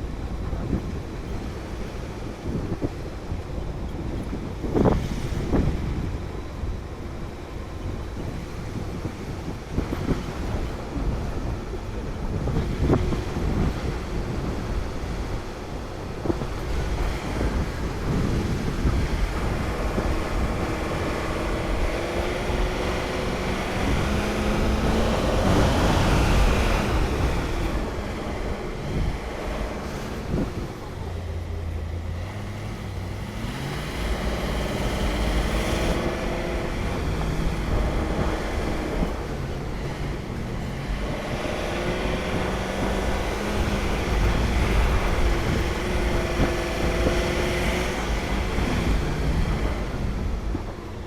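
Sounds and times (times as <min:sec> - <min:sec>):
vehicle driving rumble: 0:00.0 - 0:51.0
wind rushing over microphone: 0:00.0 - 0:51.0.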